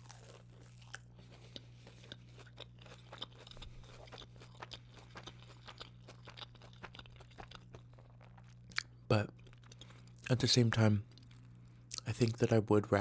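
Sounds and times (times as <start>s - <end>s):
chewing crispy food: 0.0s - 12.6s
faint low hum: 0.0s - 13.0s.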